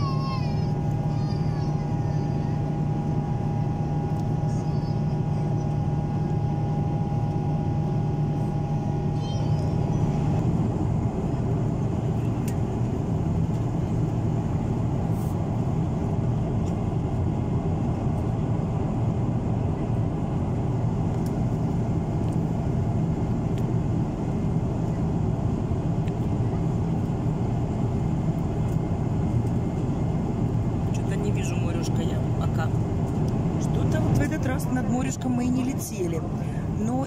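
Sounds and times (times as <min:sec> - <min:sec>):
jet engine drone: 0:00.0 - 0:37.0.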